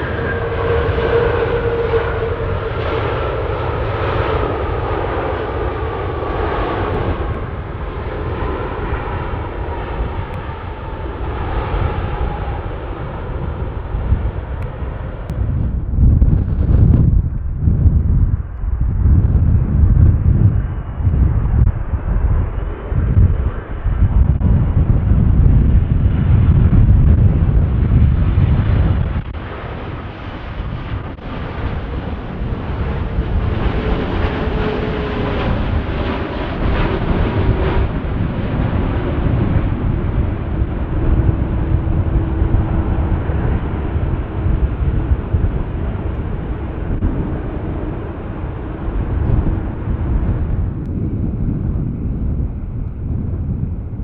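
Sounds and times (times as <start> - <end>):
jet airliner landing: 0.0 - 54.0
jet engine whine: 0.0 - 54.0.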